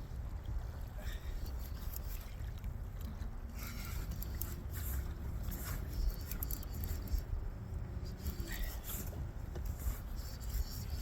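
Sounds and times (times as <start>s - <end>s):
light ticks and scrapes: 1.3s - 7.4s, 8.0s - 11.0s.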